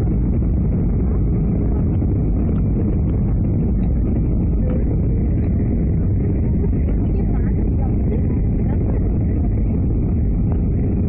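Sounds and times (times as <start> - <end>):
muffled aircraft cabin rumble: 0.0 - 11.0.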